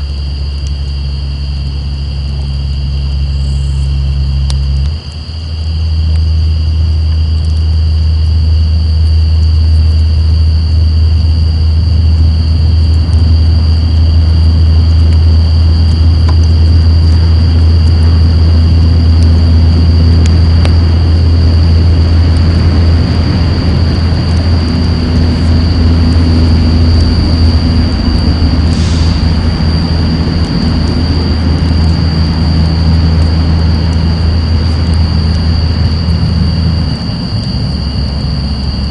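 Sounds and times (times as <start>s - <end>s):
diesel truck engine rumble: 0.0s - 38.9s
night insects trilling: 0.0s - 38.9s.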